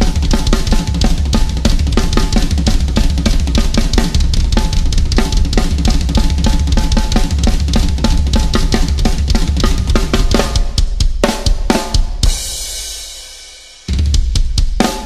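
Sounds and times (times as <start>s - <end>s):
snare and tom hits: 0.0s - 12.2s
bass drum strokes: 0.0s - 12.6s.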